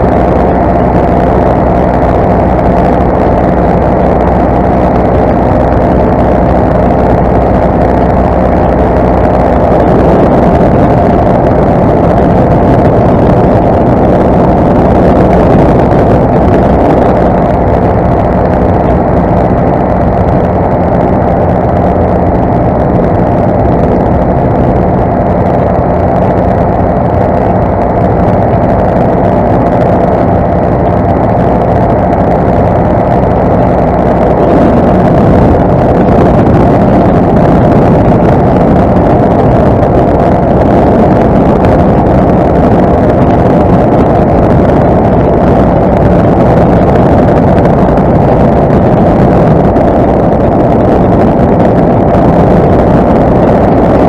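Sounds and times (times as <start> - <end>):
paramotor engine drone: 0.0 - 54.0.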